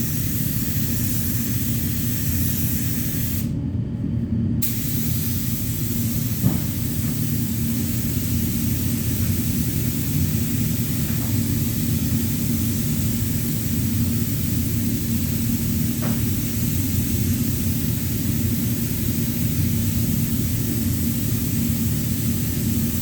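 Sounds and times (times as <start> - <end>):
air spray gun hissing: 0.0 - 3.5, 4.6 - 23.0.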